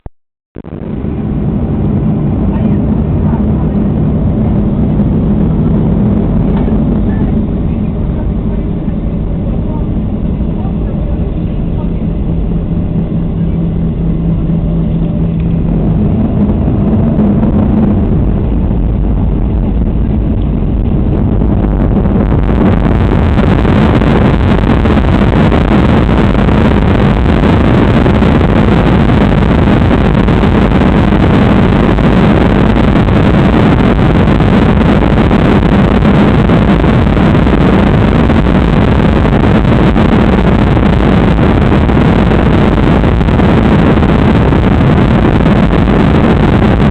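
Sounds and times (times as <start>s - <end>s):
jet engines roaring: 0.0s - 46.9s
rushing air: 0.6s - 46.9s.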